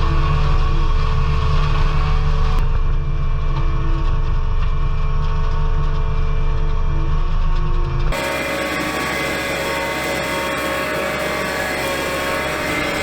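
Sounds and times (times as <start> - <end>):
skid steer engine droning: 0.0 - 13.0.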